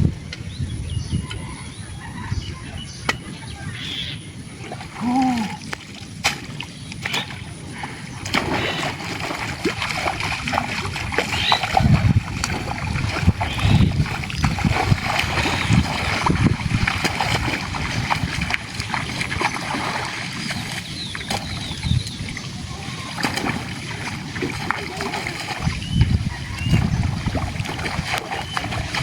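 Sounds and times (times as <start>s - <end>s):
water splashing in shallow water: 0.0s - 29.0s.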